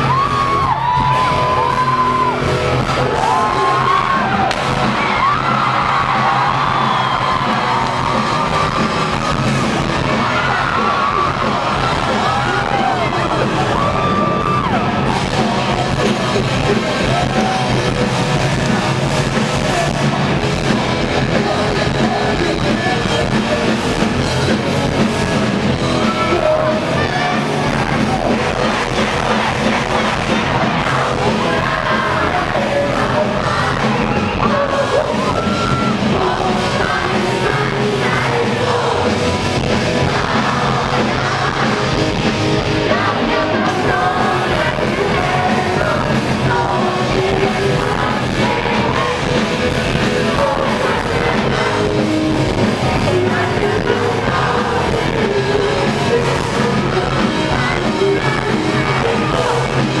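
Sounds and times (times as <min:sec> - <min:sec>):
live rock band playing: 0:00.0 - 1:00.0
person singing: 0:00.0 - 1:00.0.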